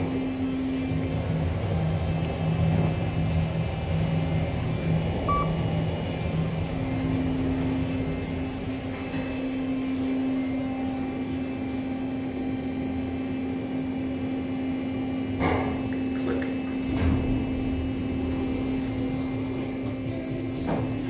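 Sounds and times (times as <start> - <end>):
elevator hum: 0.0 - 21.0.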